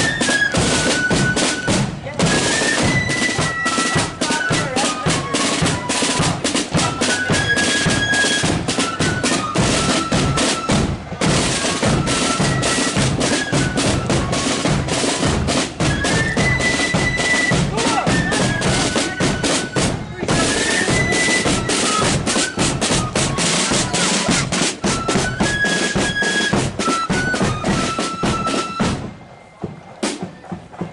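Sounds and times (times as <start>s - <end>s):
snare drumming: 0.0s - 29.1s, 30.0s - 30.9s
high flute melody: 0.0s - 30.9s.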